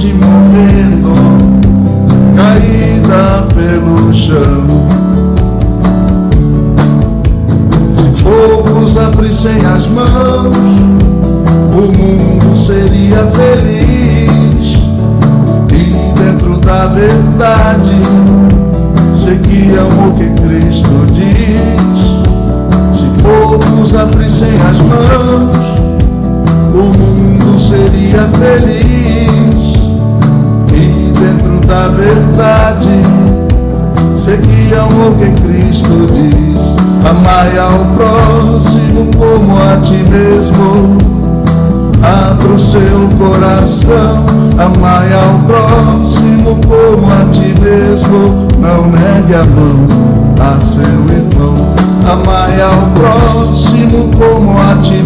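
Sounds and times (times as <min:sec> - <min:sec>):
song with singing voice: 0:00.0 - 0:55.0.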